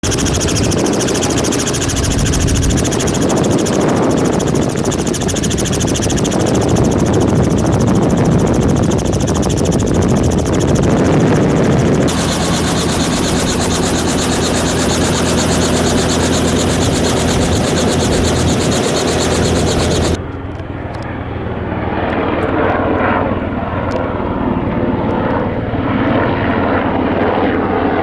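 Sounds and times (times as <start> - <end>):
helicopter rotor and engine: 0.0 - 28.0.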